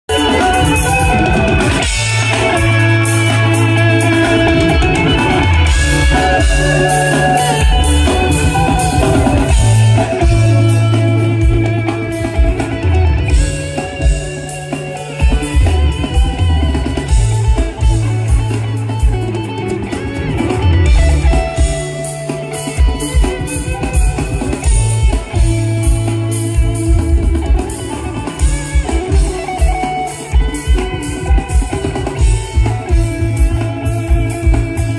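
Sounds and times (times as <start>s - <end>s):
drum kit beat: 0.0s - 34.9s
electric guitar lead: 0.0s - 34.9s
bass line: 0.1s - 34.9s.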